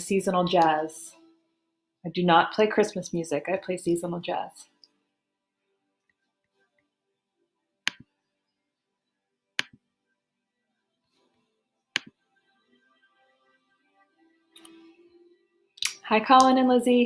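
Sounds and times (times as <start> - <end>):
faint calm background music: 0.0 - 17.0.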